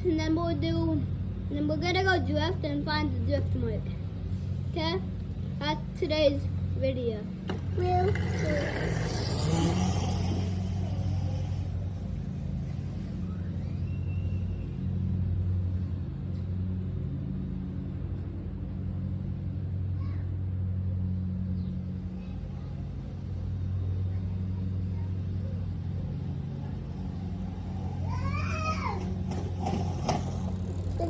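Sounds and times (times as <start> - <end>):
dirt bike motor drone: 0.0 - 31.0.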